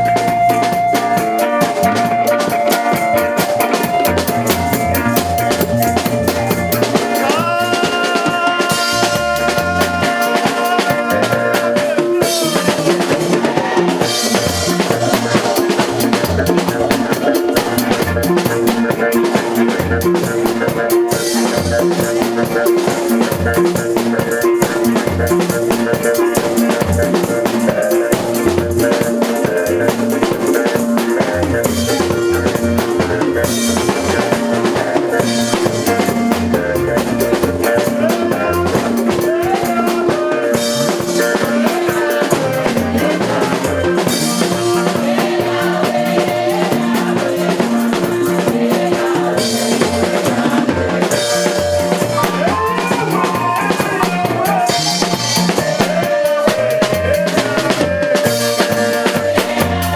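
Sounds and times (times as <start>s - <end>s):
drum kit beat: 0.0s - 59.9s.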